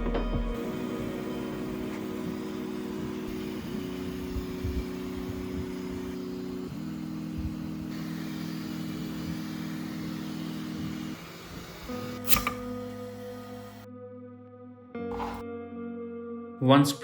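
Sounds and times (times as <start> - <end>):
printer stepper motors whining: 0.0 - 13.9.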